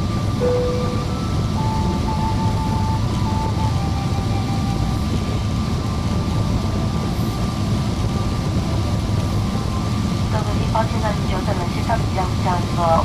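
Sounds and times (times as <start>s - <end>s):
airliner cabin rumble: 0.0s - 13.0s
faint steady whine: 0.0s - 13.0s.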